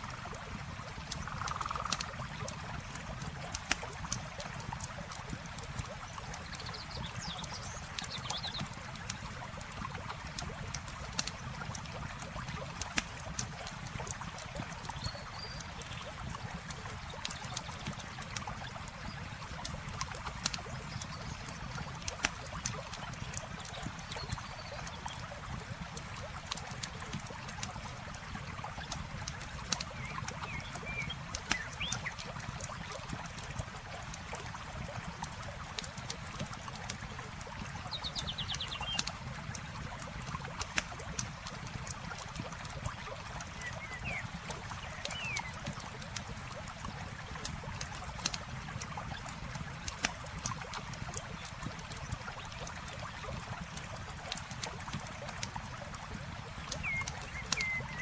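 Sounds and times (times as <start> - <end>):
campfire crackling and popping: 0.0 - 58.0
river flowing: 0.0 - 58.0.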